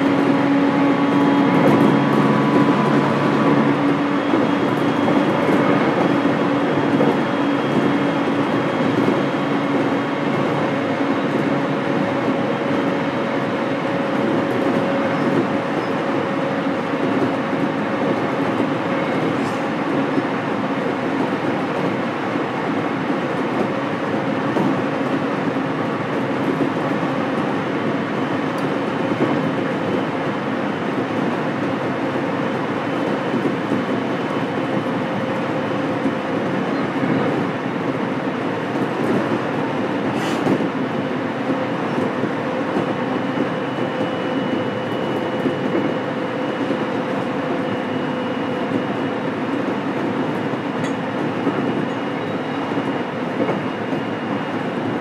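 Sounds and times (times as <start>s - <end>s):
wheel and rail rumble: 0.0s - 55.0s.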